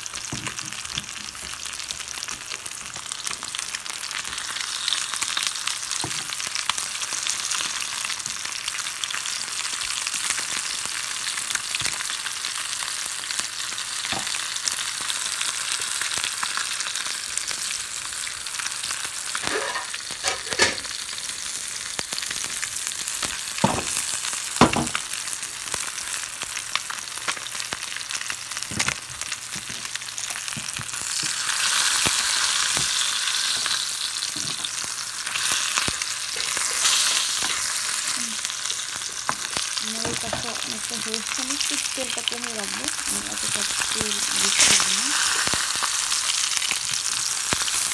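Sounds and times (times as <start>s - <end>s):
fish sizzling in hot oil: 0.0s - 47.9s.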